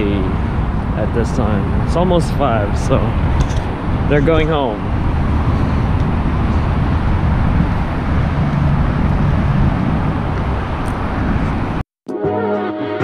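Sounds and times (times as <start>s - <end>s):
busy road traffic passing: 0.0s - 11.8s.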